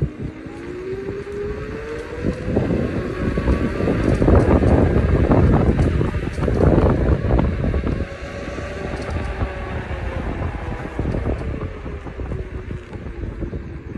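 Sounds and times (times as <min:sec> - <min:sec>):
faint hub motor whine: 0:00.0 - 0:13.9
wind buffeting microphone: 0:00.0 - 0:13.9.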